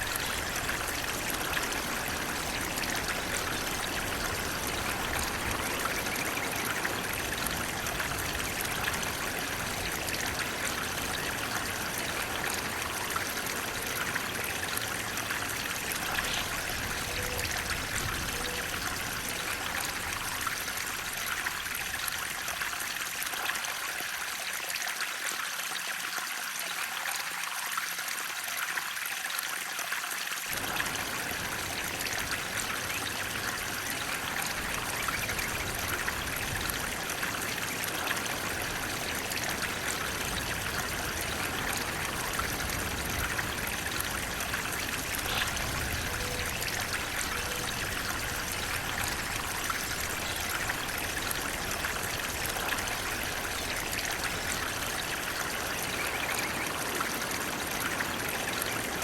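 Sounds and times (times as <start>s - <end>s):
water rushing and trickling: 0.0s - 59.0s.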